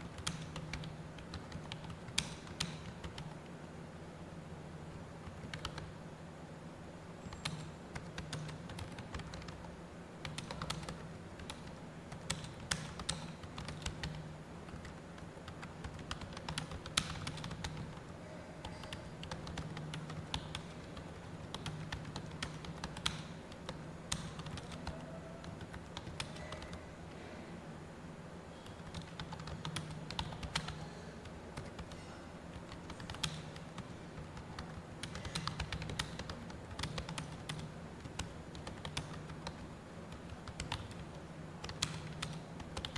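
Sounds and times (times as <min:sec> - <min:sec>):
steady low hum: 0:00.0 - 0:42.9
keyboard typing clicks: 0:00.1 - 0:03.4, 0:05.2 - 0:05.9, 0:07.3 - 0:26.8, 0:28.6 - 0:42.9.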